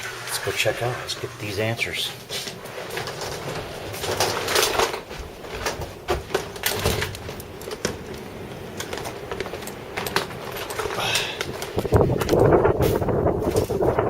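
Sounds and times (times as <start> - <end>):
footsteps: 0.0 - 14.0
handling clicks and knocks: 2.3 - 13.9.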